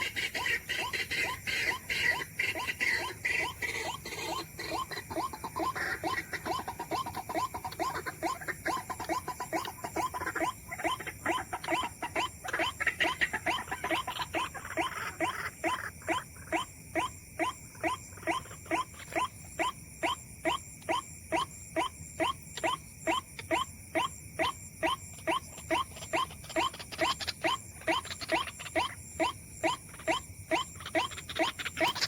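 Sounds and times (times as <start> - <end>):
bird squealing calls: 0.0 - 32.0.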